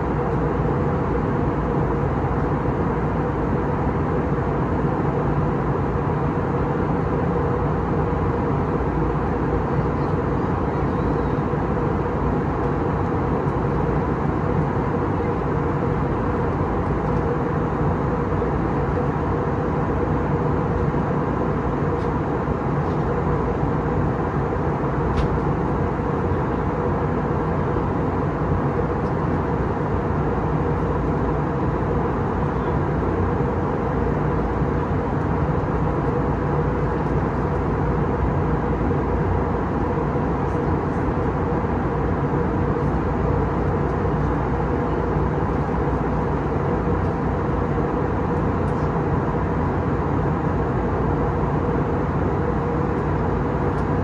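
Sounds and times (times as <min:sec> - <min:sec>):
jet engines humming: 0:00.0 - 0:54.0.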